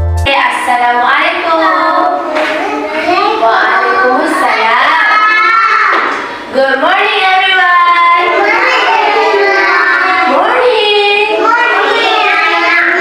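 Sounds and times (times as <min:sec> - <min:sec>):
children and adult singing: 0:00.9 - 0:13.0.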